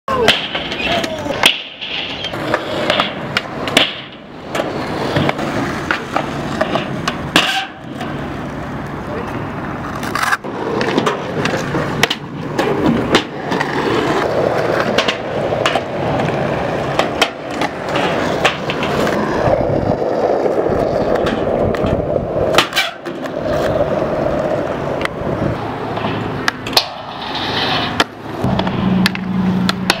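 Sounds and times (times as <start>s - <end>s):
skateboard tail clacks: 0.1s - 30.0s
skateboard wheels rolling on asphalt: 0.1s - 30.0s.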